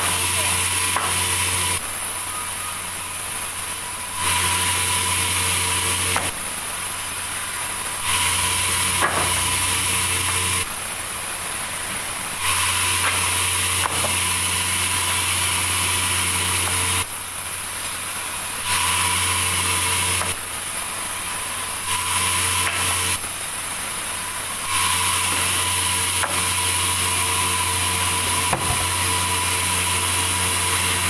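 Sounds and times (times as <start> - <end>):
sawmill saw cutting log: 0.0 - 1.9, 3.9 - 10.8, 12.3 - 17.1, 18.2 - 23.4, 24.1 - 31.0.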